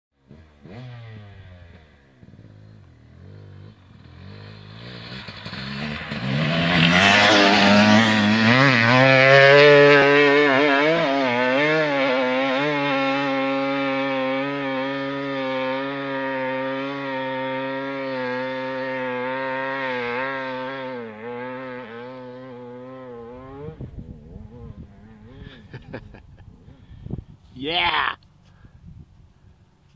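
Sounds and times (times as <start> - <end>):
dirt bike engine at high revs: 0.2 - 27.2.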